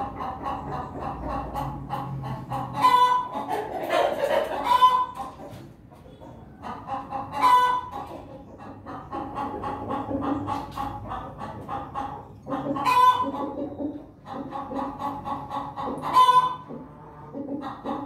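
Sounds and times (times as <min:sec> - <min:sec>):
chicken drawn calls: 0:00.0 - 0:18.0
chickens clucking: 0:00.0 - 0:18.0.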